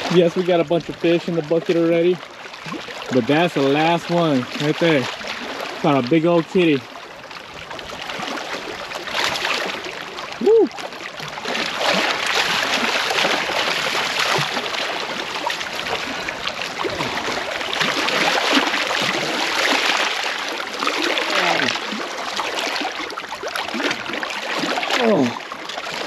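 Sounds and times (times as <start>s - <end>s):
water splashing against rocks: 0.0s - 26.0s.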